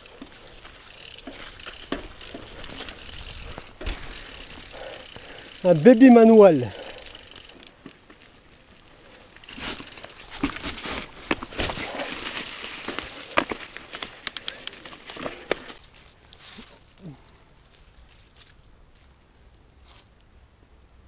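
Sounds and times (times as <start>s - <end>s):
bike tyres crackling over leaves: 0.0s - 20.2s.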